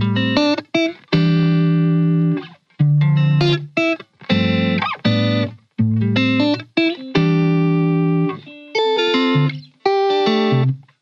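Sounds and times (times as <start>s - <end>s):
held chords music: 0.0s - 11.0s.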